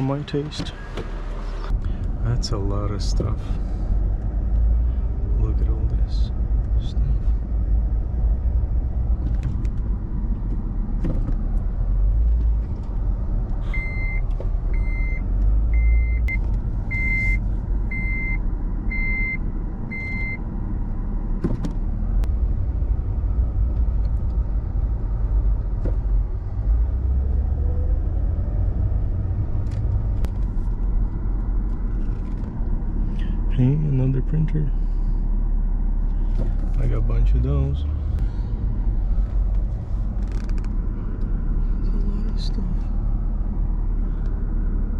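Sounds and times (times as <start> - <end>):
car rumbling: 0.0 - 44.9.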